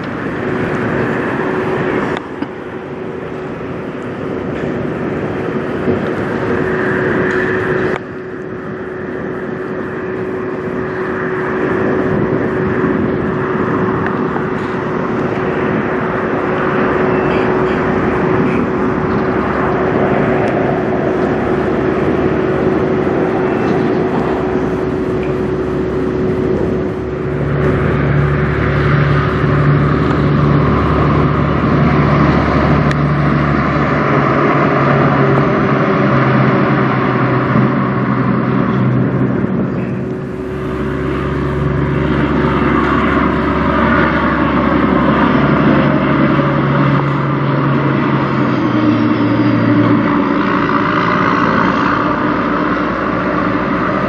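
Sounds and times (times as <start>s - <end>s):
deep pulsing truck engine: 0.0s - 54.0s
truck diesel engine humming: 0.0s - 54.0s.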